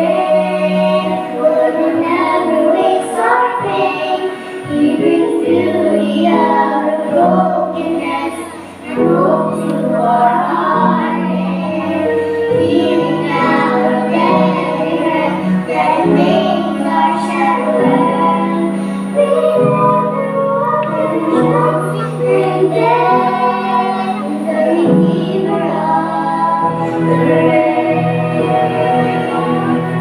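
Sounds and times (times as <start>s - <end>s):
instrumental accompaniment: 0.0s - 30.0s
young female voices singing: 0.0s - 30.0s.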